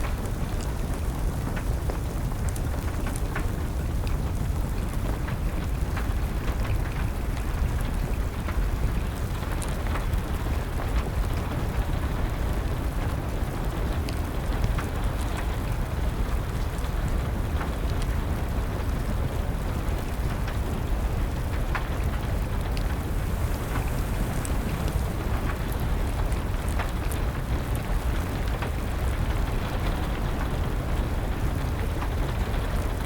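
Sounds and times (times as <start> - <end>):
fire crackling and popping: 0.0 - 33.0
steady rain: 0.0 - 33.0.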